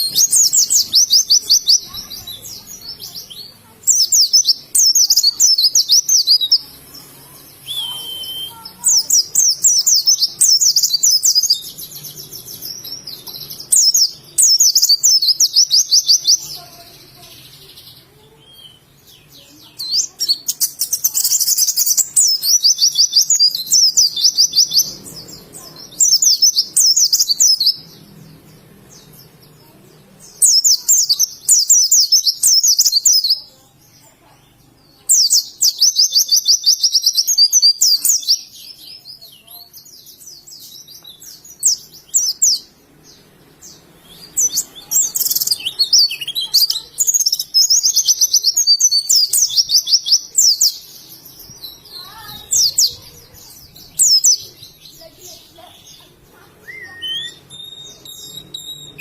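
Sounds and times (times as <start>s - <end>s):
small bird high thin chirping: 0.0s - 27.9s, 28.9s - 33.7s, 35.1s - 42.7s, 43.6s - 59.0s.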